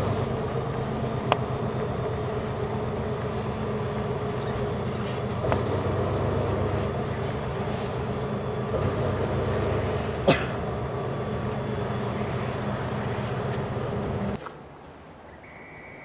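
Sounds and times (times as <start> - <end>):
vehicle rumble from inside: 0.0 - 14.4.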